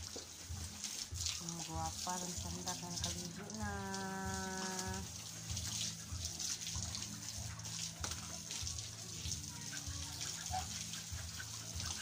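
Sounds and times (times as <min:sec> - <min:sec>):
hose spraying water: 0:00.0 - 0:12.0.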